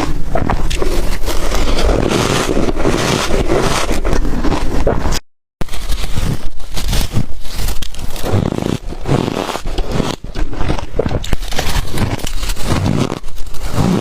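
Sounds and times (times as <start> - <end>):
ice being crunched and chewed: 0.0 - 14.0.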